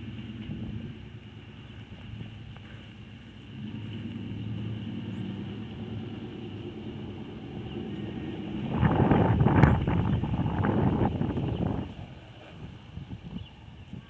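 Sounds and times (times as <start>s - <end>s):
hooves thudding on soft dirt: 0.0s - 14.0s
low steady rumble: 0.0s - 14.0s.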